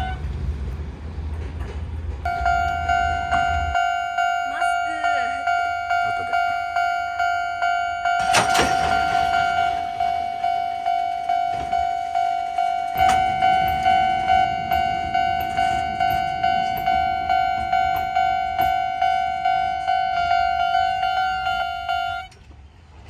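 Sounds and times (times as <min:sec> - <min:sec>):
passing train rumble: 0:00.0 - 0:23.0
level crossing warning bell: 0:02.3 - 0:22.4.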